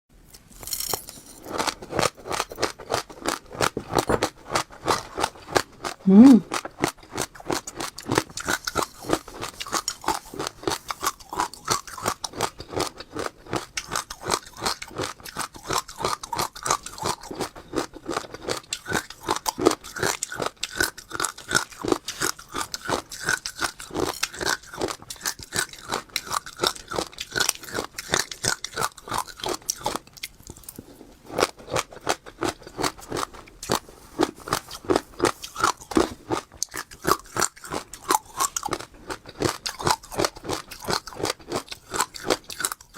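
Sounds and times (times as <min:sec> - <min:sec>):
chewing crunchy seeds: 0:00.3 - 0:42.9.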